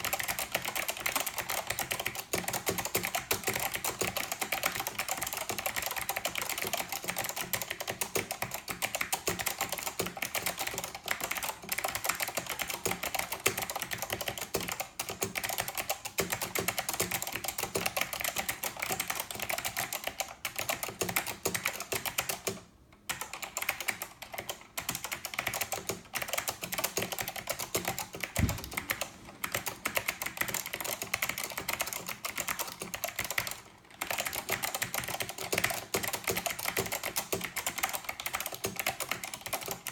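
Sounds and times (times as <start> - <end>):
fast clicky keyboard typing: 0.0 - 39.9.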